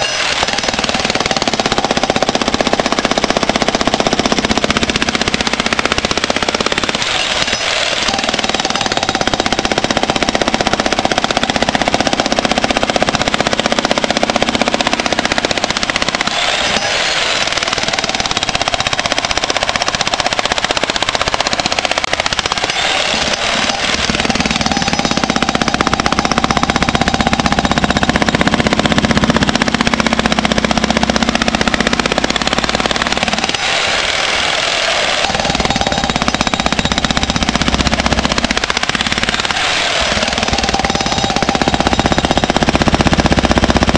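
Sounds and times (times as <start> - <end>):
jackhammer breaking concrete: 0.0 - 43.9.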